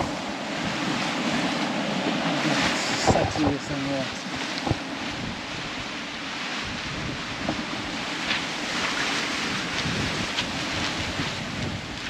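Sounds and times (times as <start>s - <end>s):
ocean waves: 0.0s - 12.0s
wind buffeting microphone: 0.0s - 12.0s
wind rushing: 0.0s - 12.0s.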